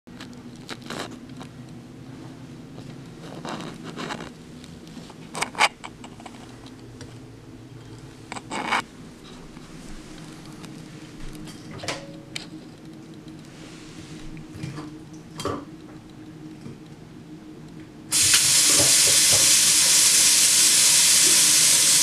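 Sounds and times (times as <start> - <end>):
steady low hum: 0.1 - 19.8.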